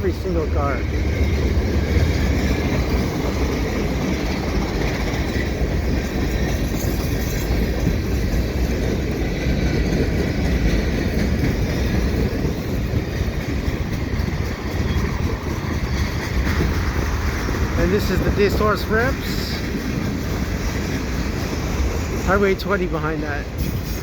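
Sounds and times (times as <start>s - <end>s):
freight train cars rolling: 0.0s - 24.0s
wind buffeting microphone: 0.3s - 22.4s.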